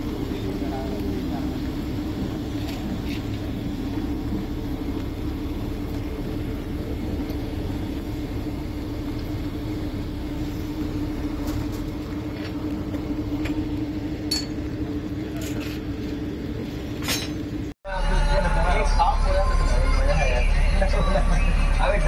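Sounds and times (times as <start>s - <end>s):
moving train rumble: 0.0s - 22.0s
steady low hum: 0.0s - 22.0s.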